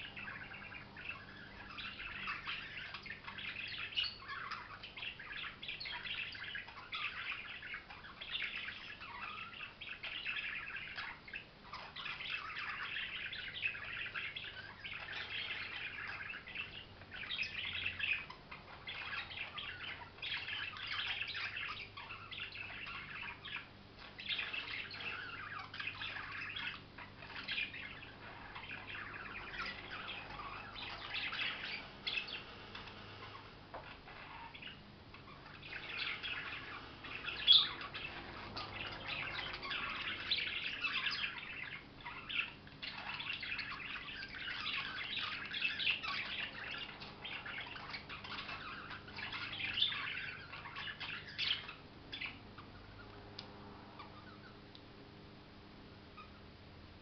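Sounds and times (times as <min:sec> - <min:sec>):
budgerigars chirping: 0:00.0 - 0:54.7, 0:56.2 - 0:56.5.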